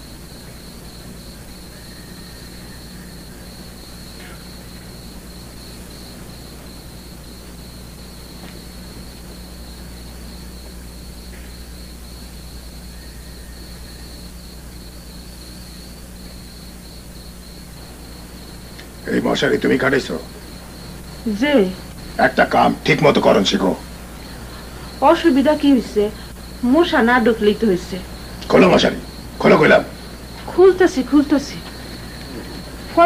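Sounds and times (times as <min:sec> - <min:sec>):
crickets chirping: 0:00.0 - 0:33.0
low electrical hum: 0:00.0 - 0:33.0.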